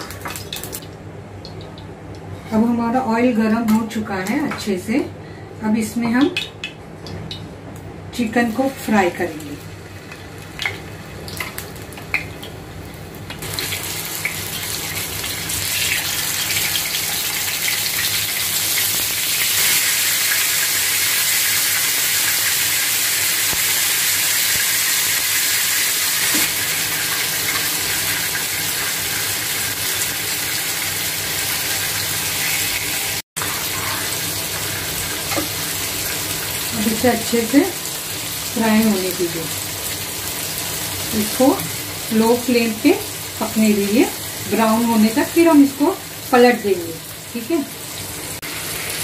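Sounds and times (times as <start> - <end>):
chicken sizzling in hot oil: 8.6 - 49.0.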